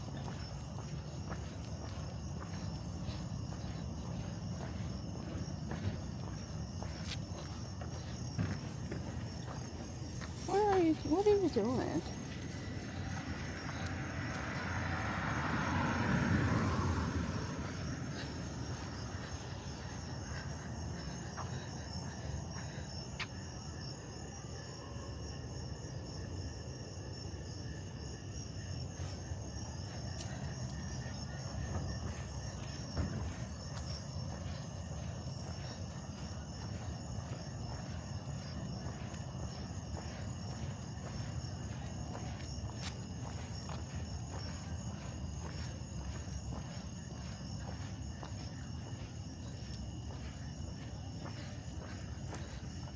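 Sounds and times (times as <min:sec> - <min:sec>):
crickets and insects chirping: 0:00.0 - 0:52.9.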